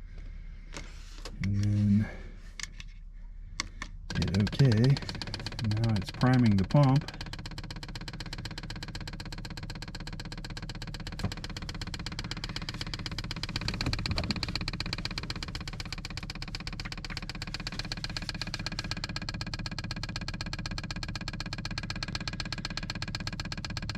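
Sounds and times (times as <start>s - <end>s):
fuel pump ticking rapidly: 3.5s - 23.9s.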